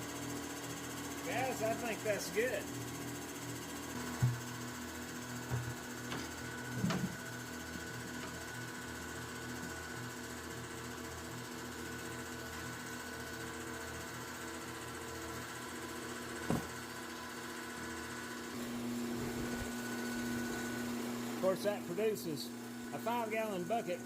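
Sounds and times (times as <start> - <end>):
sand mixer humming: 0.0 - 24.0.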